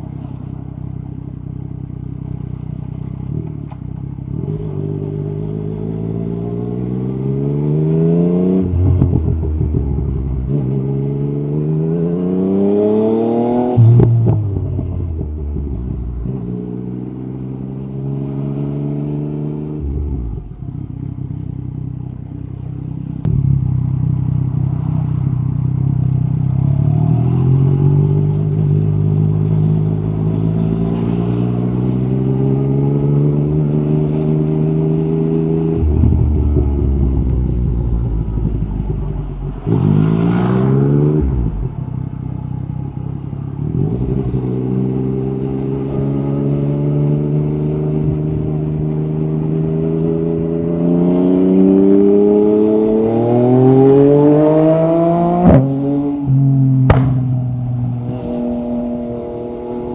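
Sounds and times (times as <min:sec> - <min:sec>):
motorcycle engine revving: 0:02.2 - 0:21.9, 0:22.6 - 0:59.9.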